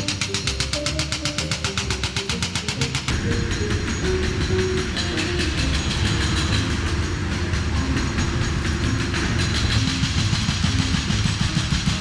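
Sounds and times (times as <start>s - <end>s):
low engine rumble: 0.0s - 12.0s
mechanical hammering rattle: 0.0s - 12.0s.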